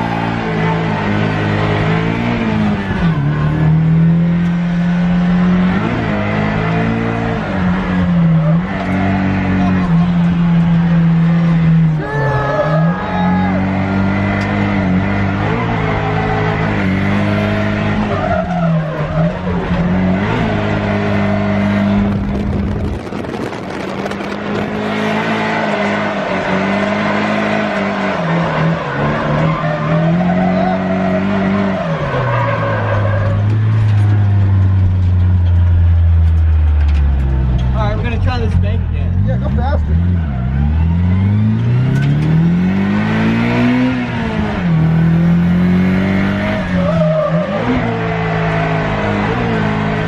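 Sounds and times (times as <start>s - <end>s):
car engine at high revs: 0.0s - 50.0s.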